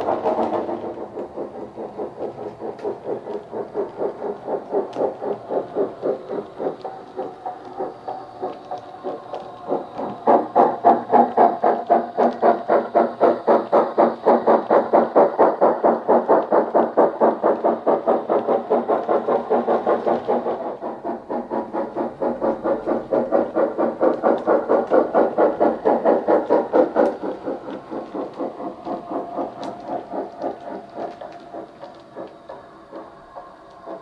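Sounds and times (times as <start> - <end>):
steam locomotive exhaust chuffs: 0.0 - 34.0.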